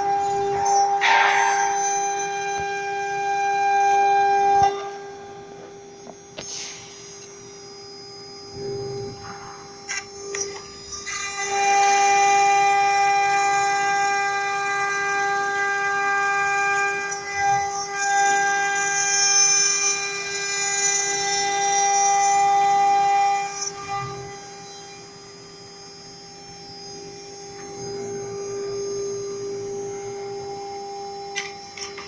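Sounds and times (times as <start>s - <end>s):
router spindle high whine: 0.0s - 32.0s.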